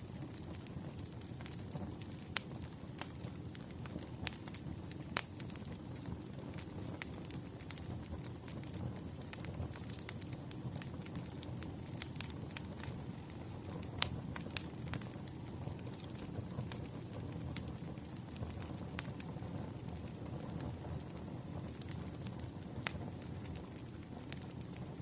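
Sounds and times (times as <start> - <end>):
firewood crackling and popping: 0.0 - 25.0
low rumble of flames: 0.0 - 25.0.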